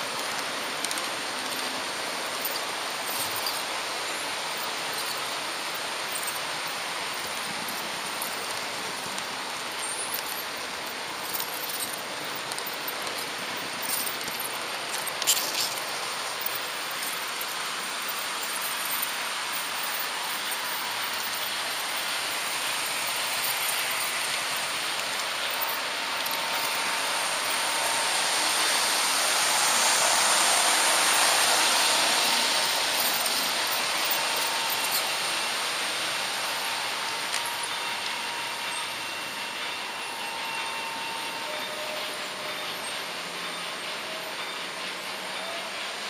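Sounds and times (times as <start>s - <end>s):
model train wheels rattling: 0.0s - 46.0s.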